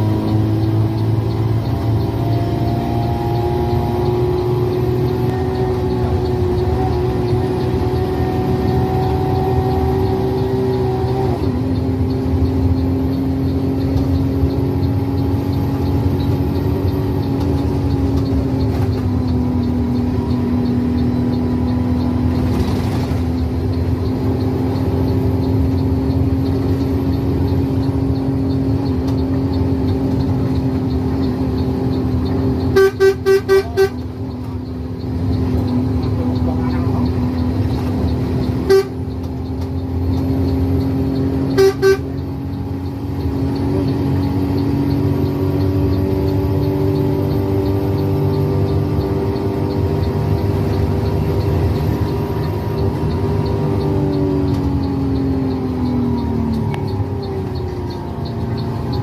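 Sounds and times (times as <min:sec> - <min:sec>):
bus engine running: 0:00.0 - 0:59.0
faint even ticking: 0:00.1 - 0:59.0.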